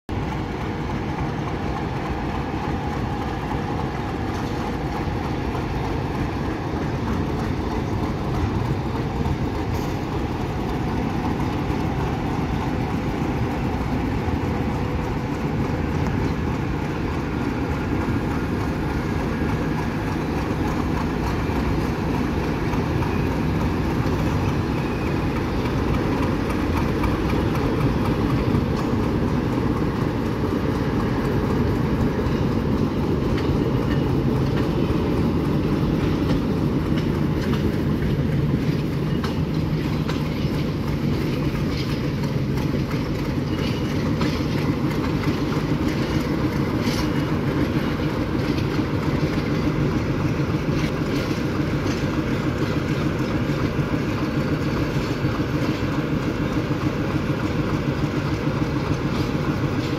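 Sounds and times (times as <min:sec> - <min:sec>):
moving train rumble: 0:00.1 - 0:59.9.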